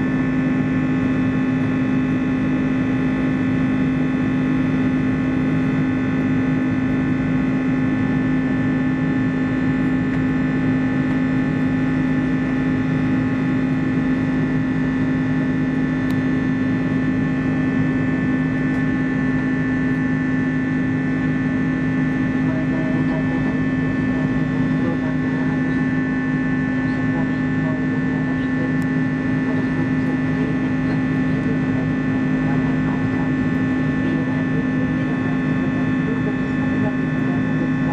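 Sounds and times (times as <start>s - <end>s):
airplane cabin engine drone: 0.0s - 37.9s.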